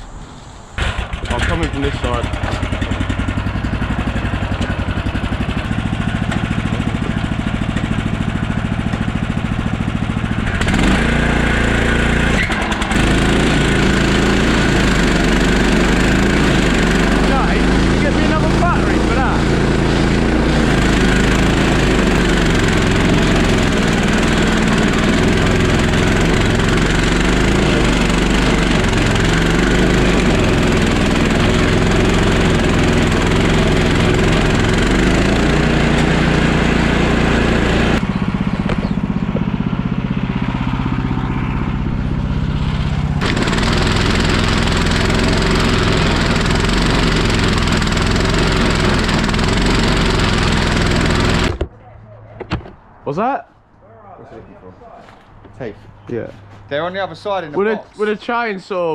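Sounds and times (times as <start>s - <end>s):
cutter wheel grinding stump: 0.8s - 51.7s
stump grinder engine: 0.8s - 51.7s.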